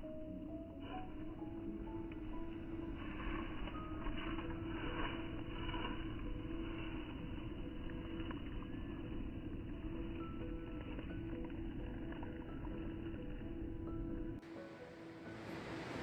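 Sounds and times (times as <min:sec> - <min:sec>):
soft background music: 0:00.0 - 0:16.0
steady low noise: 0:00.0 - 0:16.0.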